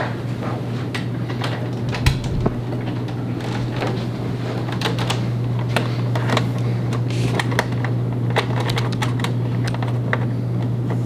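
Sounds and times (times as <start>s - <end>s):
steady low hum: 0.2s - 11.0s.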